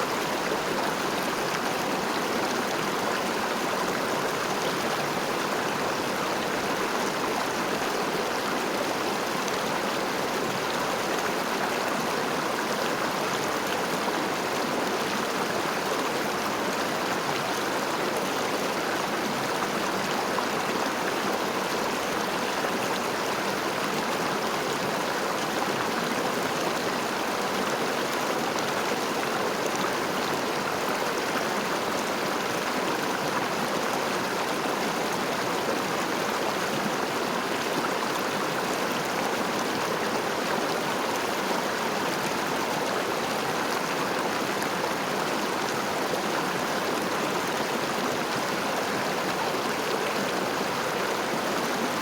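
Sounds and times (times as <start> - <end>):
river water flowing and gurgling: 0.0 - 52.0.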